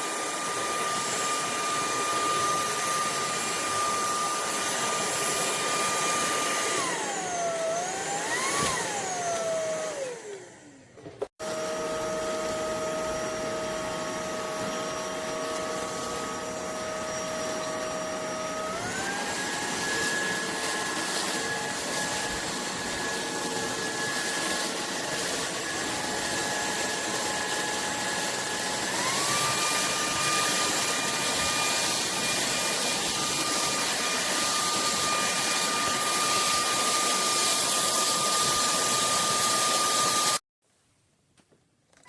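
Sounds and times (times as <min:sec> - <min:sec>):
stick vacuum running: 0:00.0 - 0:40.4.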